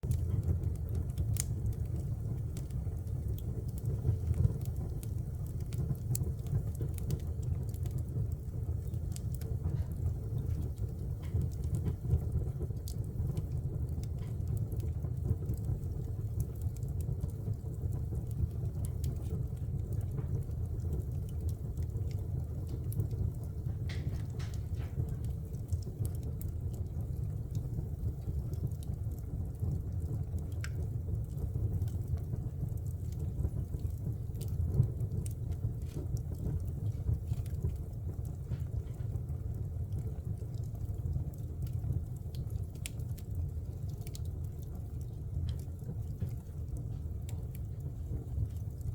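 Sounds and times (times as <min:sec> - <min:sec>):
fire crackles and pops: 0:00.0 - 0:48.9
fire rumbling in fireplace: 0:00.0 - 0:48.9.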